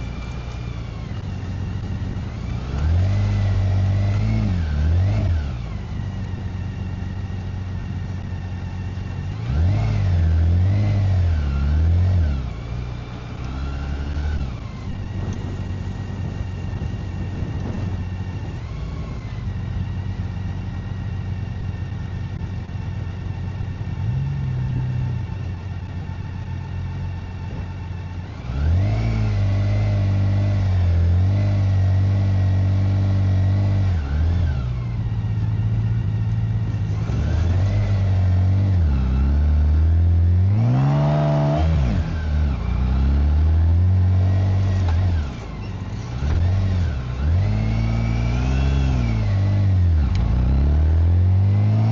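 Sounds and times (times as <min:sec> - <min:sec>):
motorcycle engine and exhaust: 0:00.0 - 0:51.9.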